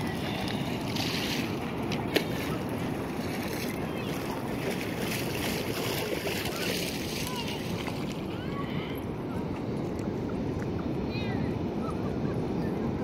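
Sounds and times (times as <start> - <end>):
ocean surf: 0.0 - 13.0.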